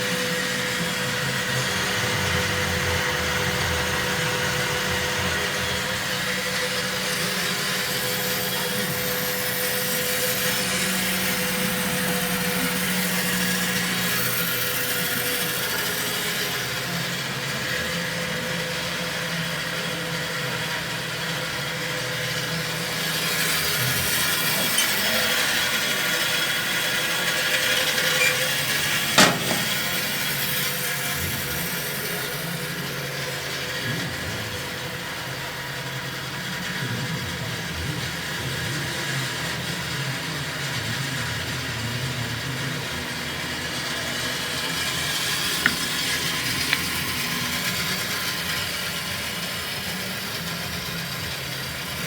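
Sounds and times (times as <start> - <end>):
bandsaw cutting wood: 0.0 - 52.0.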